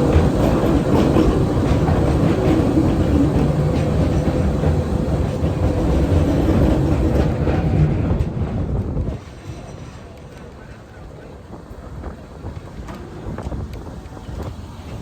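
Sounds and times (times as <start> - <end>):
train rumbling on track: 0.0 - 15.0
train wheels clattering: 0.0 - 15.0.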